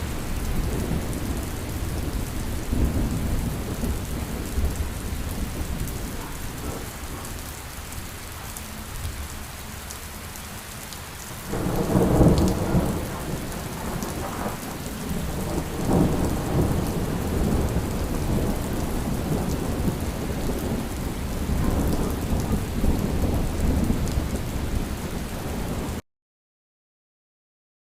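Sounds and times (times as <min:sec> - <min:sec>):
rumbling thunder: 0:00.0 - 0:08.2, 0:11.4 - 0:26.0
steady rain: 0:00.0 - 0:26.0.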